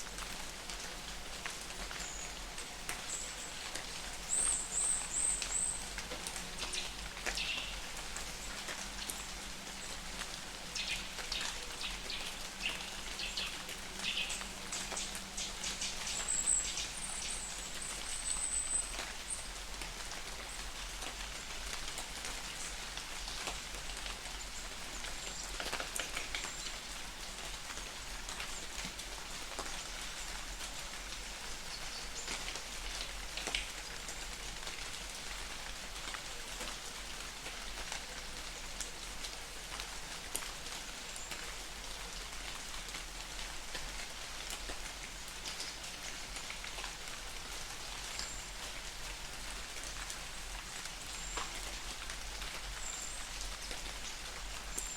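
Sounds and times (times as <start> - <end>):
light rain pattering: 0.0 - 54.9
raindrops dripping: 0.0 - 54.9.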